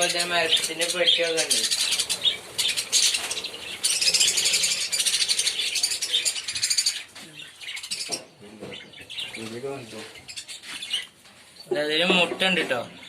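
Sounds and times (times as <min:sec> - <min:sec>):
birds chattering and chirping: 0:00.0 - 0:13.0.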